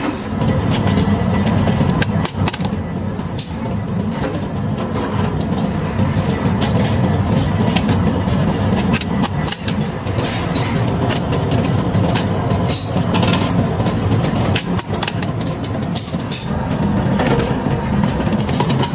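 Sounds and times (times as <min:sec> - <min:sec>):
heavy machinery rumbling: 0:00.0 - 0:18.9.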